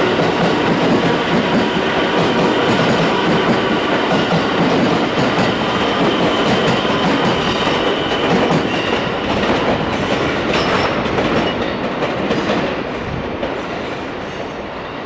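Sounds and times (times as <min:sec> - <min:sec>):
loud steady train rumble: 0:00.0 - 0:15.0
train wheels clattering over rail joints: 0:00.2 - 0:14.1.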